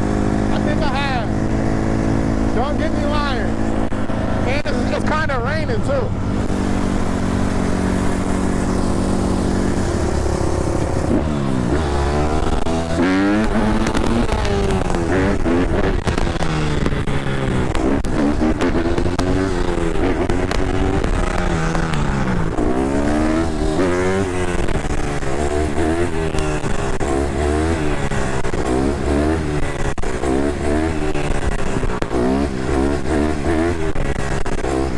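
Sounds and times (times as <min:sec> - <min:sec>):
dirt bike engines revving: 0:00.0 - 0:34.9.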